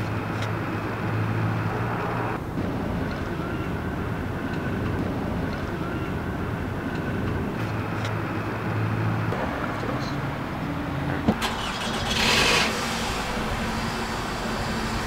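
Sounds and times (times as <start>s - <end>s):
car engine running: 0.0s - 15.0s
traffic noise: 0.0s - 15.0s.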